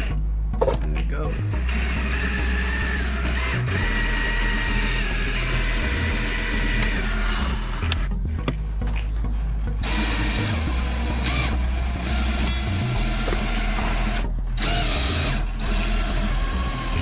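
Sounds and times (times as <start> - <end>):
small electric motor whining: 1.3 - 17.0.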